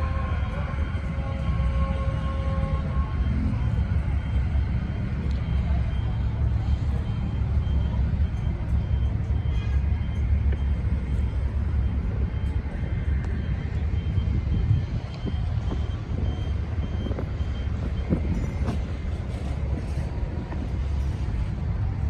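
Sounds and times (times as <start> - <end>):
city traffic rumble: 0.0 - 22.0
reversing alarm beeps: 0.0 - 22.0.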